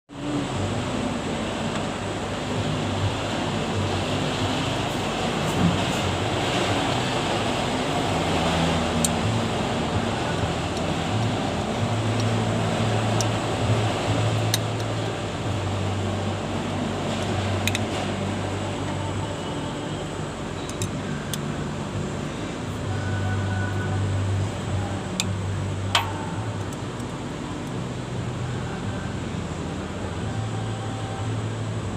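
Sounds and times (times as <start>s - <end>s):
low hum: 0.1s - 31.9s
welding machine fan whir: 0.1s - 31.9s.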